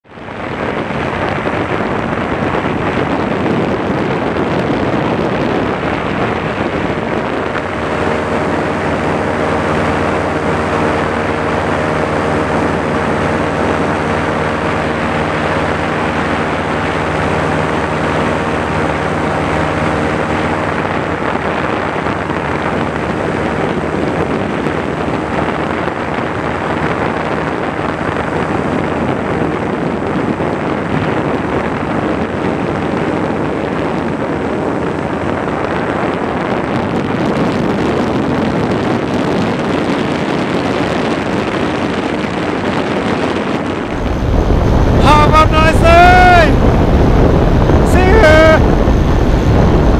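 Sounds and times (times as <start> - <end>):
paraglider engine humming: 0.0 - 49.9
wind rush on microphone: 0.0 - 49.9.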